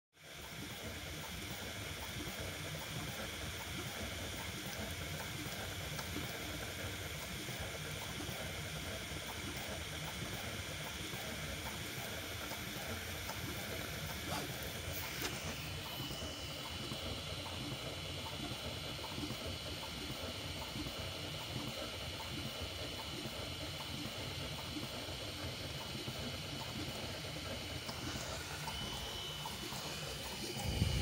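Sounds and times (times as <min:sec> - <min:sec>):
printer motors and fans whirring: 0:00.2 - 0:31.0.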